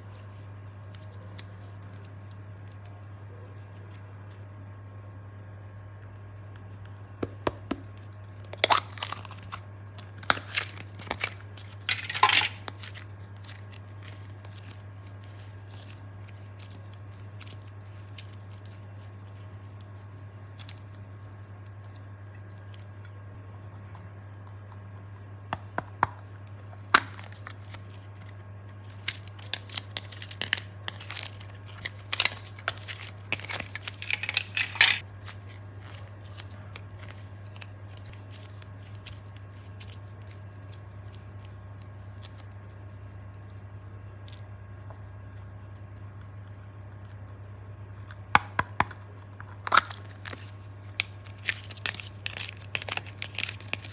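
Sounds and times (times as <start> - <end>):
crinkling handling noise: 0.0 - 4.4, 6.8 - 23.2, 26.0 - 43.0, 48.1 - 53.9
steady low hum: 0.0 - 53.9.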